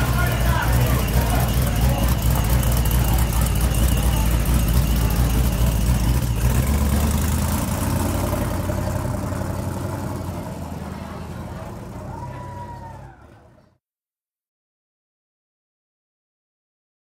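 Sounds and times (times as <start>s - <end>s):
pickup truck engine rumbling: 0.0s - 13.7s.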